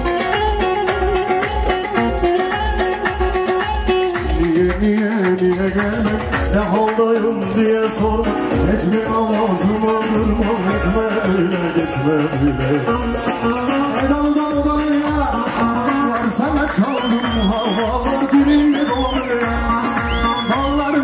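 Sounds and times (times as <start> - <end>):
electronic keyboard: 0.0 - 21.0
folk dance music: 0.0 - 21.0
lute melody: 0.0 - 21.0
steady drum beat: 0.0 - 21.0.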